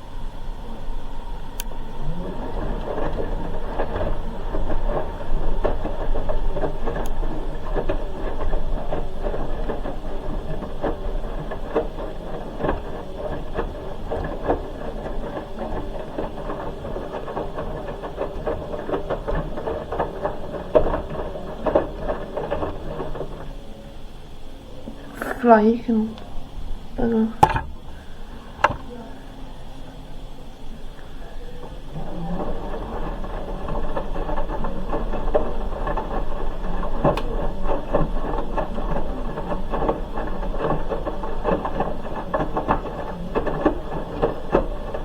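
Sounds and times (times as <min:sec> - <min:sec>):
washing machine mechanical hum: 0:00.0 - 0:45.0.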